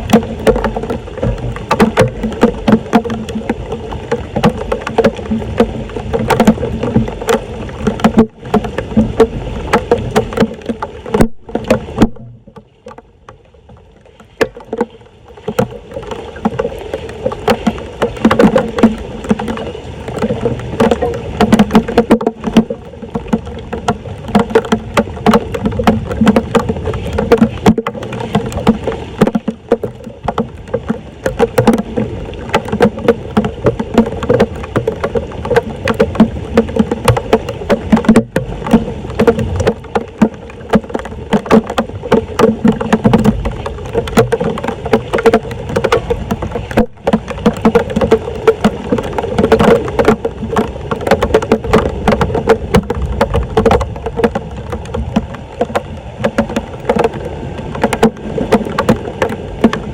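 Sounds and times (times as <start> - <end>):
floodwater splashing: 0.0 - 59.9
knocks and scrapes: 0.0 - 59.9.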